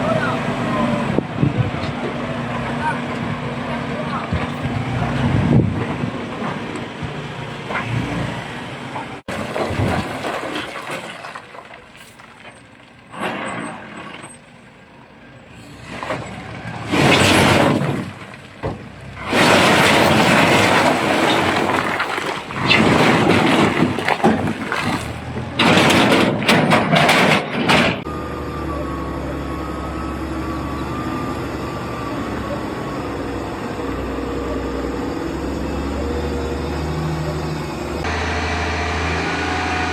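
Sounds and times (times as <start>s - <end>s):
truck engine drone: 0.0s - 10.7s, 11.4s - 39.9s
rough truck noise bursts: 0.0s - 28.3s, 29.2s - 39.9s.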